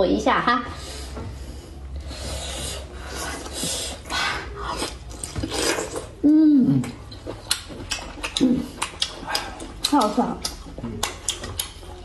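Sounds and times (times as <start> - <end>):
wet chewing and sucking: 1.9 - 12.0.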